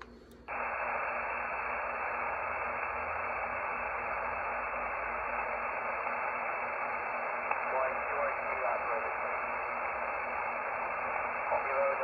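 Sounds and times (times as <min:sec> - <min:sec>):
radio static hiss: 0:00.5 - 0:12.0.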